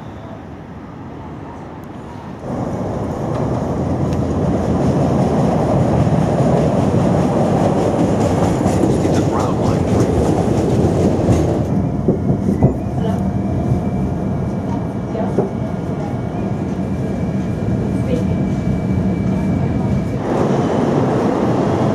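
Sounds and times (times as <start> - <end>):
train wheels rumbling on rails: 2.0 - 21.9.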